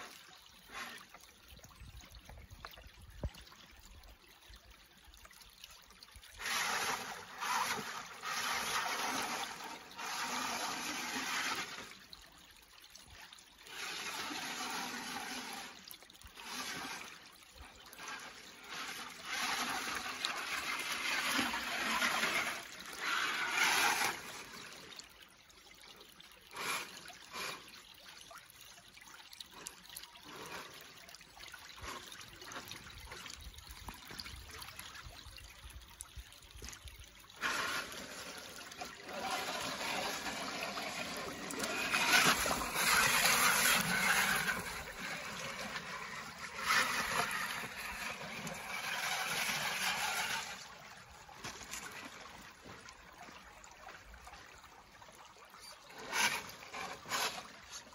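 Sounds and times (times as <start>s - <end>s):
creek trickling: 0.0s - 57.9s
water splashing: 0.0s - 57.9s.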